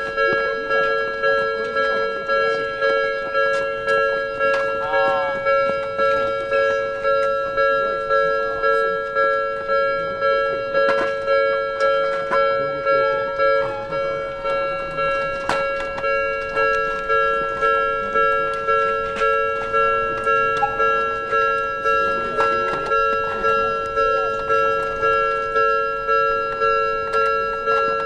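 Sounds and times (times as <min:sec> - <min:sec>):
level-crossing warning bell: 0:00.0 - 0:28.0.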